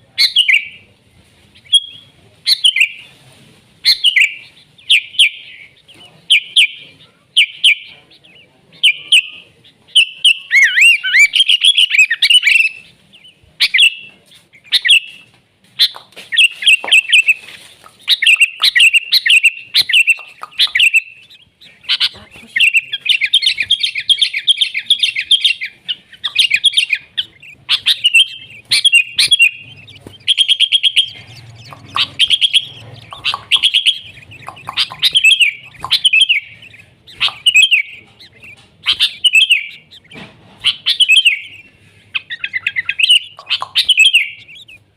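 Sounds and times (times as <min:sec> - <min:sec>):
bulbul chirping song: 0:00.0 - 0:00.9, 0:01.5 - 0:03.1, 0:03.8 - 0:44.9.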